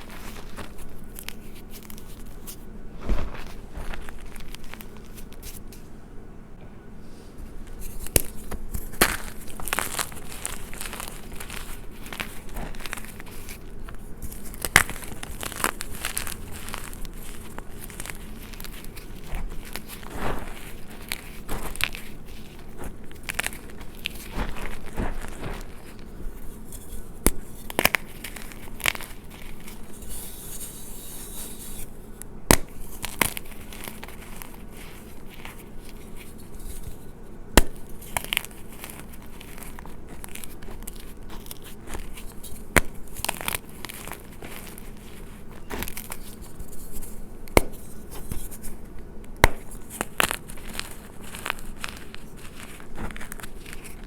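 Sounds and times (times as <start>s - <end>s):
chalk crackling: 0.0s - 5.9s, 7.3s - 54.0s
chalk pieces snapping: 7.8s - 54.0s.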